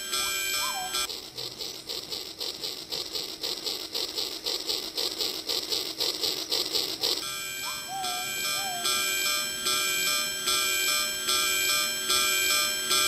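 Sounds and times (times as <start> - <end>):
toy train mechanical clatter: 0.0 - 13.0.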